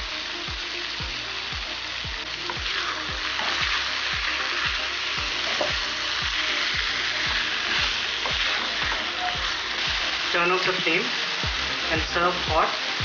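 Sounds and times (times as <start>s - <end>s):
steady low beat: 0.0s - 10.4s, 11.4s - 12.7s
curry sizzling in a pan: 0.0s - 13.0s.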